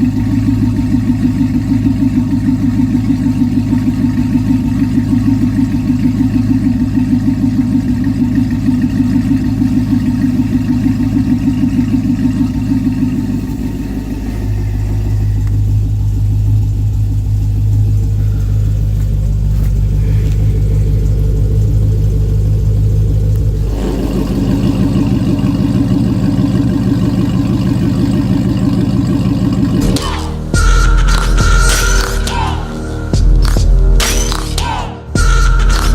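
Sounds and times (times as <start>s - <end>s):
car exhaust burble: 0.0s - 35.9s.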